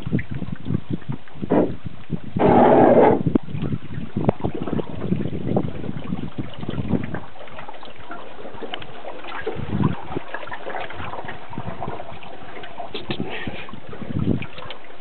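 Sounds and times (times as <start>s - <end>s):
water splashing around a kayak: 0.0s - 15.0s.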